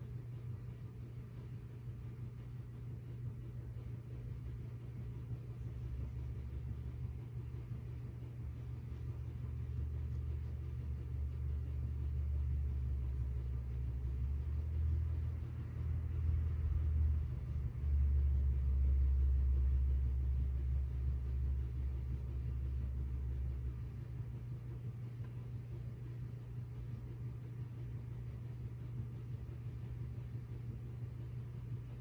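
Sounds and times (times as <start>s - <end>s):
low steady rumble: 0.0s - 32.0s.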